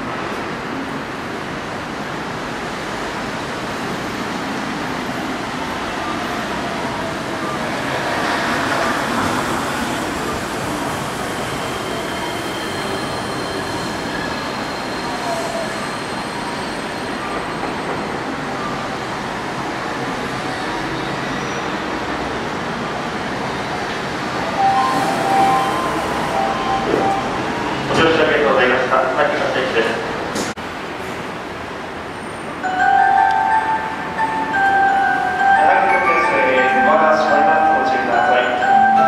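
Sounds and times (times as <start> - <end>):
monorail train running rumble: 0.0 - 39.0.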